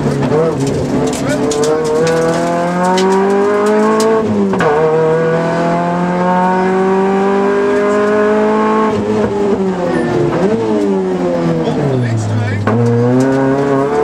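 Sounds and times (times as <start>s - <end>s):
rally car engine under hard driving: 0.0s - 14.0s.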